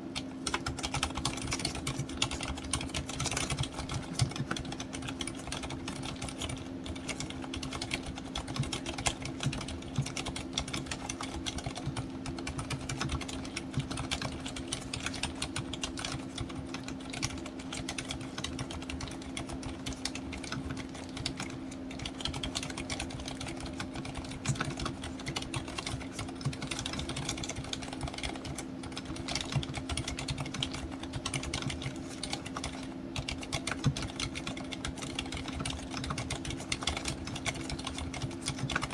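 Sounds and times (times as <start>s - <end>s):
soft keyboard typing: 0.0s - 38.9s.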